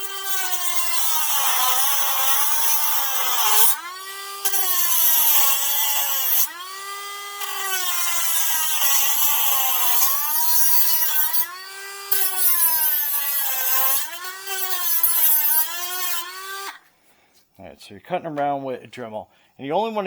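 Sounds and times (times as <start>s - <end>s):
rotary tool motor whining: 0.0s - 16.8s.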